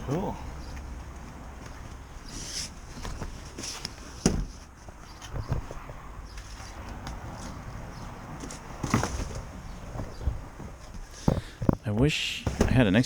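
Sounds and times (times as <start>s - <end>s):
handling knocks and thumps: 0.0s - 13.0s.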